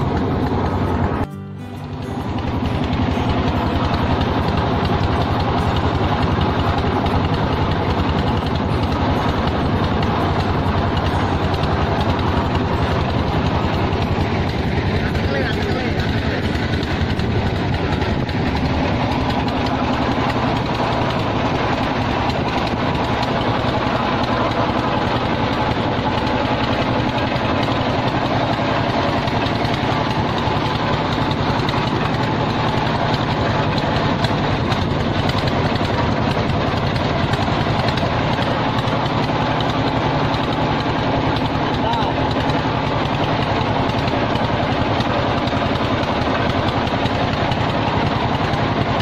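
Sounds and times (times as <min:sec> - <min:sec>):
small boat motor running: 0:00.0 - 0:49.0.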